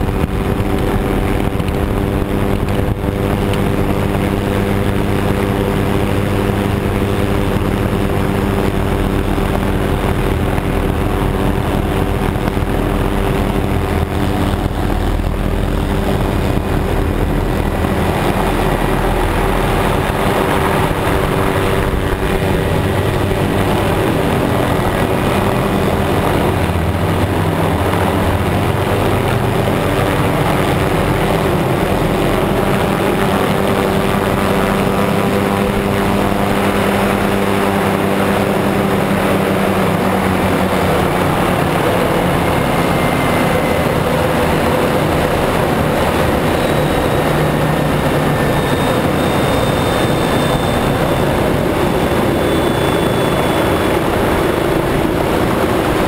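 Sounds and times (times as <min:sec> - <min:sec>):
helicopter engine and rotor: 0:00.0 - 0:56.0
rushing noise: 0:00.0 - 0:56.0.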